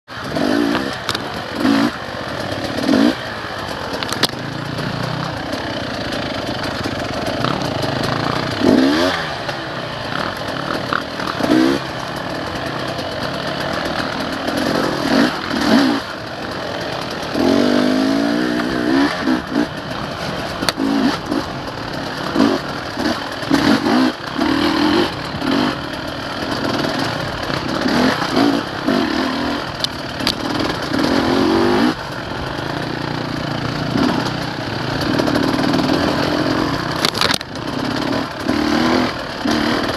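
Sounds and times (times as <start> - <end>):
dirt bike engine revving: 0.1 - 39.9.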